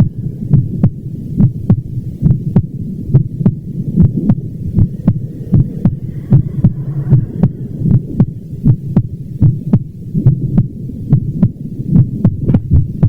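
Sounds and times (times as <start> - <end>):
heartbeat thumps: 0.0 - 13.0
low steady rumble: 0.0 - 13.0.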